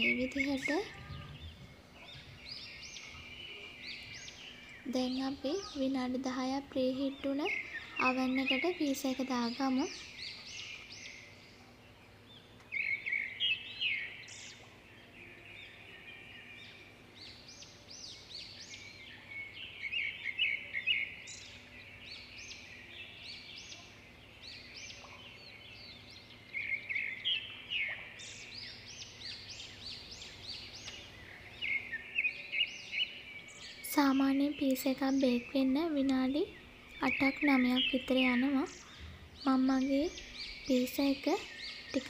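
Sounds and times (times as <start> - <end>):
faint low hum: 0.0 - 42.0
small birds chirping: 0.0 - 42.0.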